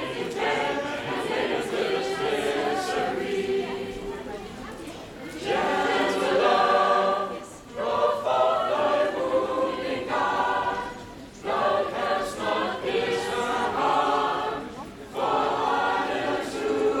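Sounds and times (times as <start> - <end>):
youth choir singing: 0.0 - 4.6, 5.3 - 17.0.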